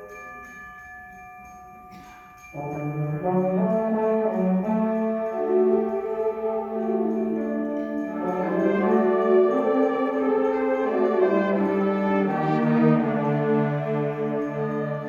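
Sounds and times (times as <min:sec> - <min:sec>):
brass sustained chords: 0:02.6 - 0:15.0.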